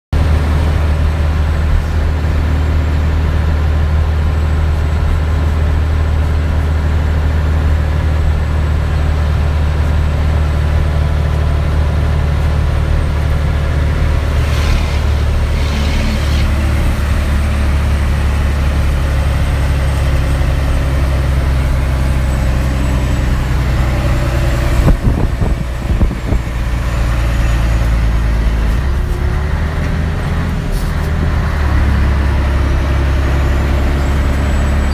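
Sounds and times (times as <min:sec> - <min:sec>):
diesel truck engine pulling uphill: 0:00.1 - 0:34.9.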